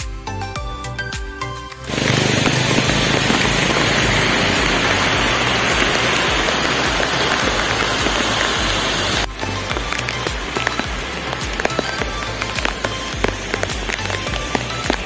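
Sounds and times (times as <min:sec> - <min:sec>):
heavy rain hissing: 0:01.9 - 0:15.0
low rumbling: 0:01.9 - 0:15.0.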